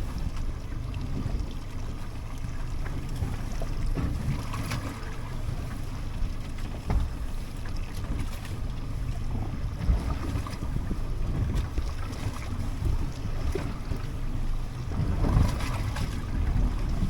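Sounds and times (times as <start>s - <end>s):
water slapping boat hull: 0.0s - 17.0s
wind buffeting microphone: 3.0s - 17.0s.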